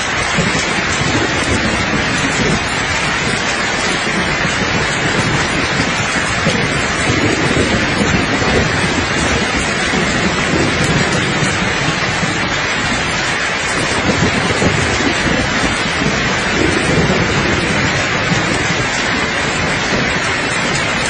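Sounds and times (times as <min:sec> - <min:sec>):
dense rain: 0:00.0 - 0:21.0
distant thunder rumble: 0:00.0 - 0:21.0.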